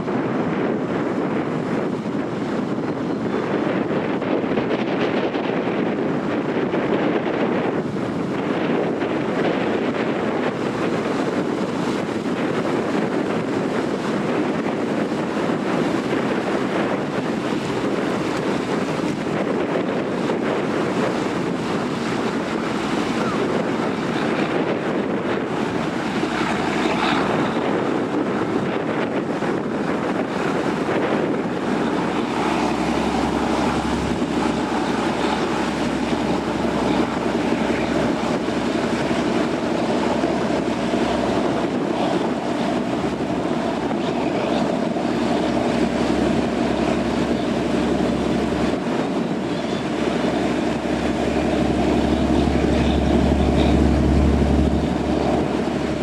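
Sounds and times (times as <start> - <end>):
ferry engine drone: 0.0 - 56.0
rushing water from ferry: 0.0 - 56.0
wind buffeting microphone: 0.0 - 56.0.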